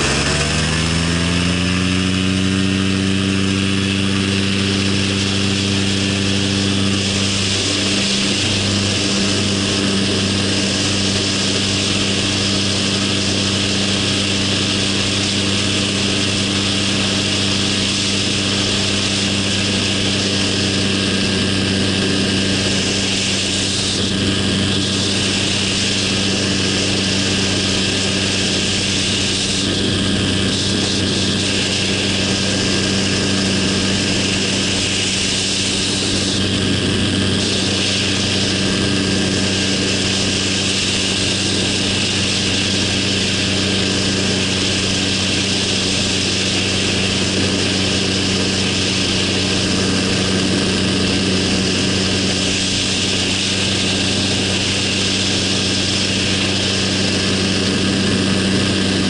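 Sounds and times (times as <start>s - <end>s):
engine and propeller drone: 0.0s - 59.0s
wind rushing over microphone: 0.0s - 59.0s.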